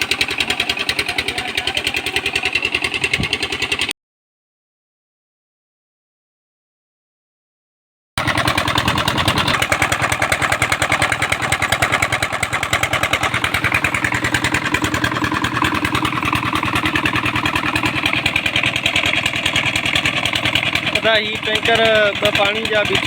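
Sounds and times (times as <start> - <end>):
tractor engine running: 0.0 - 3.9, 8.2 - 23.0.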